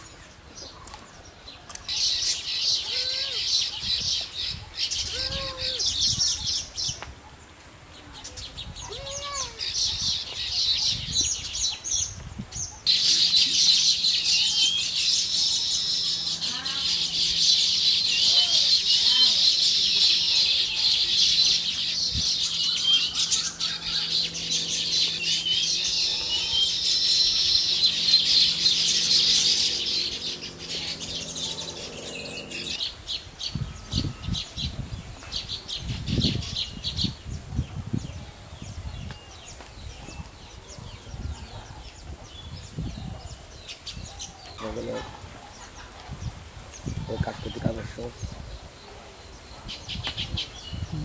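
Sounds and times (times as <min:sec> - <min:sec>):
birds chattering and twittering: 0:00.0 - 0:51.0.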